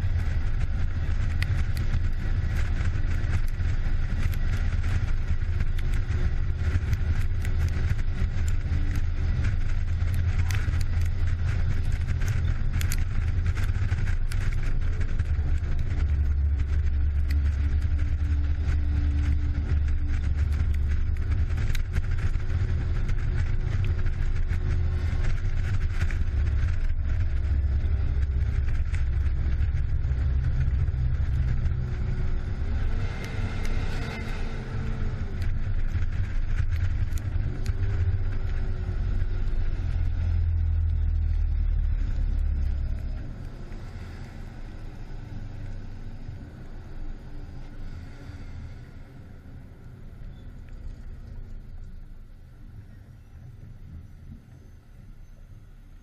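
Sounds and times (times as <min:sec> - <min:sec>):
diesel engine rumbling: 0:00.0 - 0:56.0
wind and road noise: 0:00.0 - 0:56.0.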